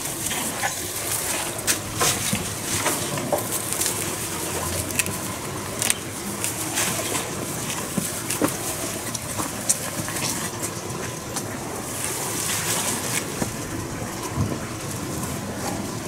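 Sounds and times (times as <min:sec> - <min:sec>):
otters rustling in leaves: 0:00.0 - 0:16.0.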